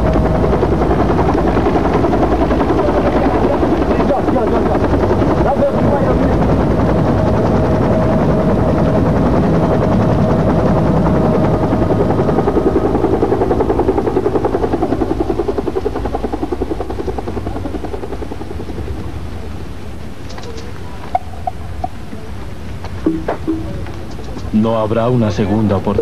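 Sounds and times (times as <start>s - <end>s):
helicopter rotor beating: 0.0s - 26.0s.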